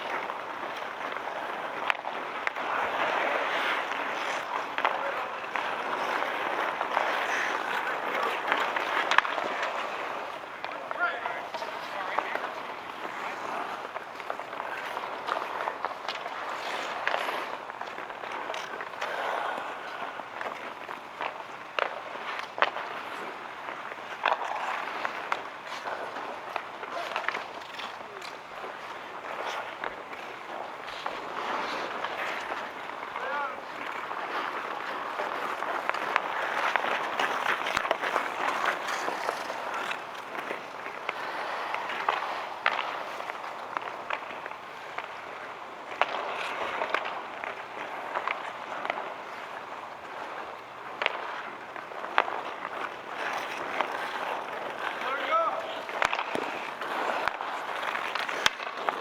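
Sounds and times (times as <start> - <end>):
skates scraping on ice: 0.0 - 59.0
sticks and puck clicking: 0.1 - 59.0.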